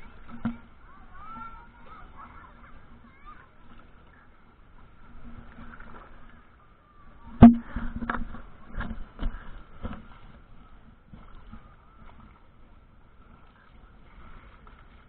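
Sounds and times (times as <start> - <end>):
kayak paddle splashes and knocks: 0.0 - 6.4, 7.1 - 15.0.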